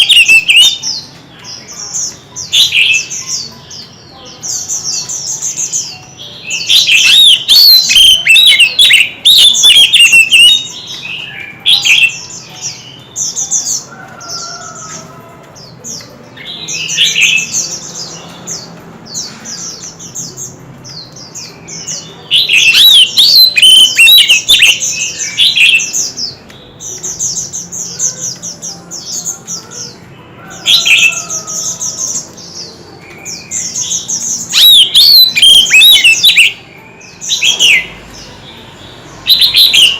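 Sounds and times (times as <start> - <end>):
bird singing warbling song: 0.0 - 39.9.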